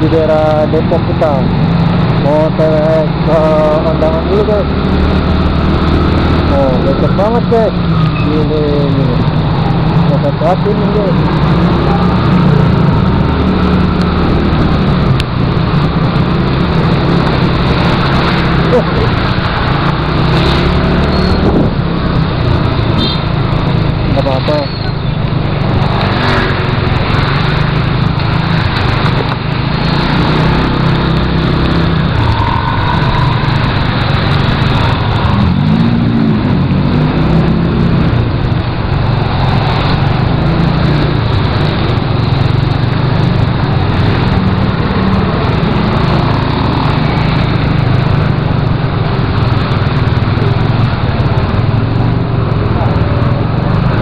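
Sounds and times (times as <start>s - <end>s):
wind and road noise: 0.0s - 54.0s
motorcycle engine running: 8.6s - 54.0s.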